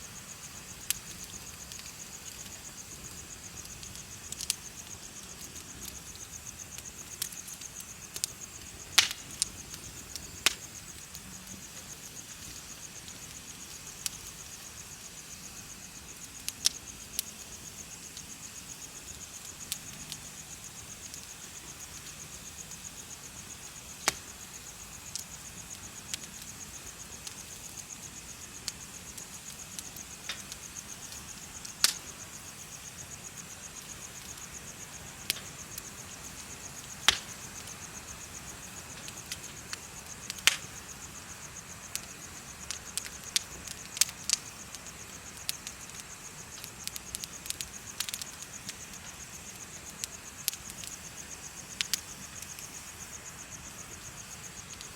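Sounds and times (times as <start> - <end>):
bonfire crackling: 0.0 - 54.9
crickets chirping: 0.0 - 54.9.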